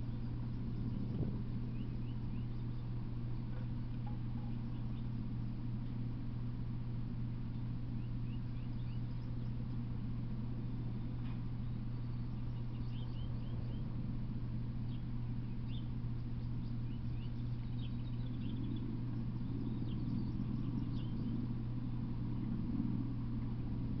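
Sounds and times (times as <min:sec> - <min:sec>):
birds chirping: 0:00.0 - 0:06.2, 0:06.8 - 0:24.0
steady low hum: 0:00.0 - 0:24.0.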